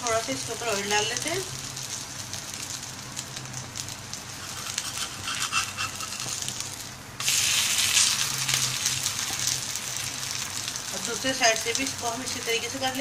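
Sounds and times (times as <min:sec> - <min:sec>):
pancake sizzling in oil: 0:00.0 - 0:13.0.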